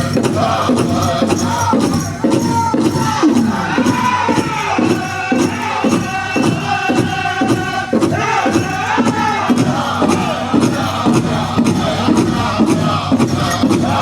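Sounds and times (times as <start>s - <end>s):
big drum beating: 0.0s - 14.0s
group singing in chorus: 0.0s - 14.0s.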